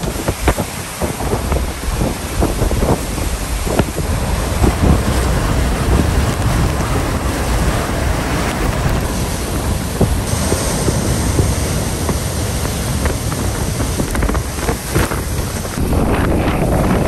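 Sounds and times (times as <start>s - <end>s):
heavy rain: 0.0s - 17.0s
strong wind gusting: 0.0s - 17.0s
wind buffeting microphone: 0.0s - 17.0s.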